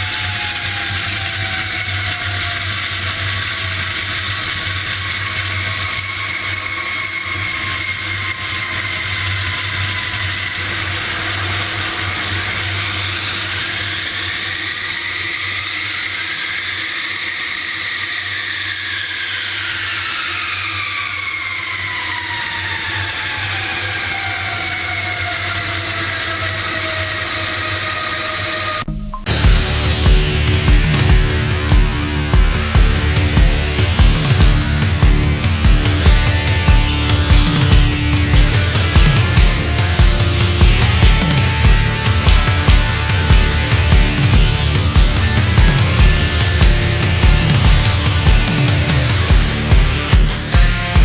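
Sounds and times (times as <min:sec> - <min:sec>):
jet engine whine: 0:00.0 - 0:51.0.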